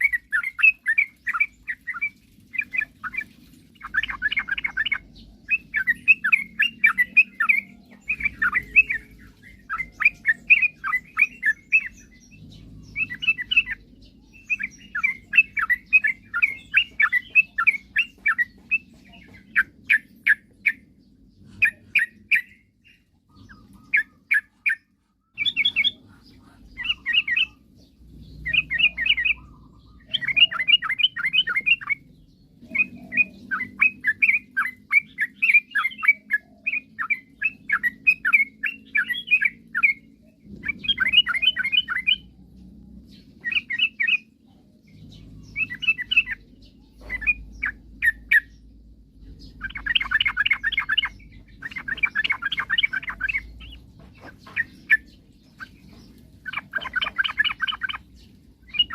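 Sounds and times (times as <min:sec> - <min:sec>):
bird chattering song: 0:00.0 - 0:58.9.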